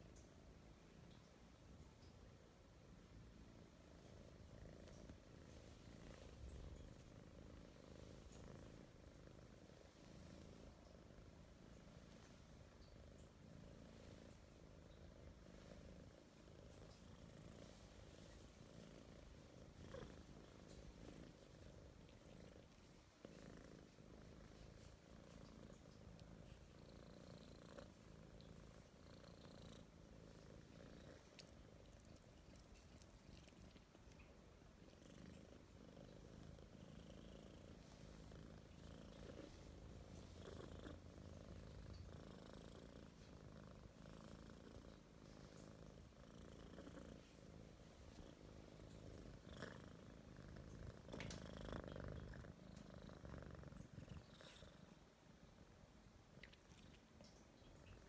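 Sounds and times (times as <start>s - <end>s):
kitten purring: 2.8s - 58.0s.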